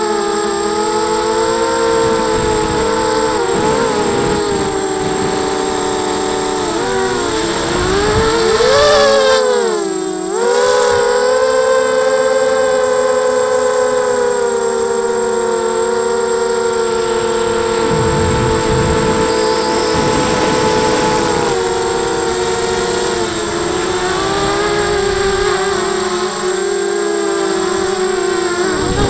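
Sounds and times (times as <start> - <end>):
quadcopter propellers whining: 0.0 - 29.0.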